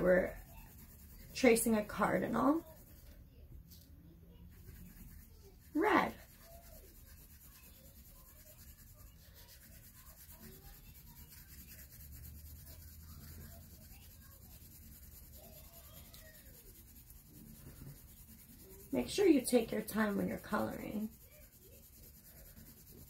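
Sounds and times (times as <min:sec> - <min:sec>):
colouring tool rubbing on paper: 0:00.0 - 0:23.0.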